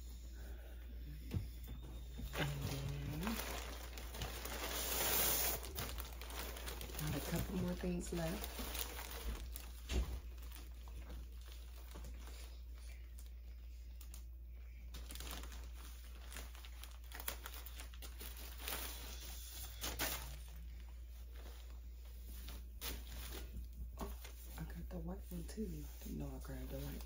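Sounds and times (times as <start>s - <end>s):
plastic bag crinkling: 2.3s - 24.8s.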